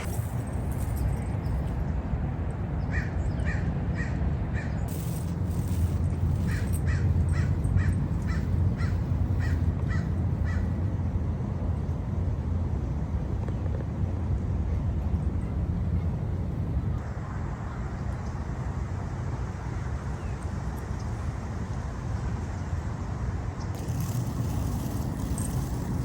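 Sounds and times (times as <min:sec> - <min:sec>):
steady low rumble: 0:00.0 - 0:22.8.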